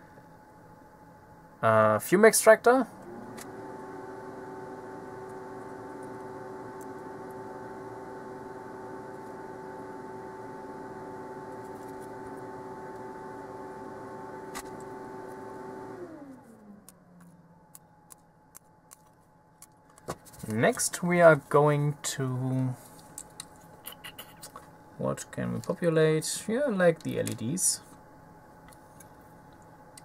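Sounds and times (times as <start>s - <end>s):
extractor fan humming: 0.0s - 30.0s.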